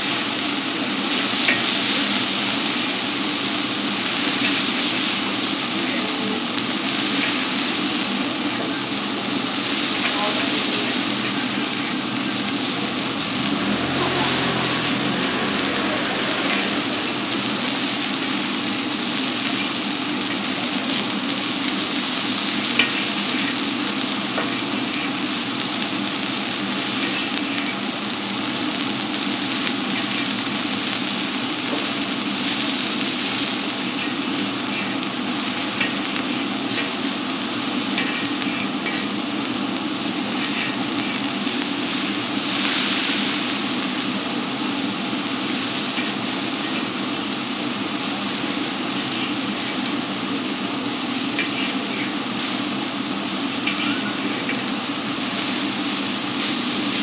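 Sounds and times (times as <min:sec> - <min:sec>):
steak sizzling: 0:00.0 - 0:57.0.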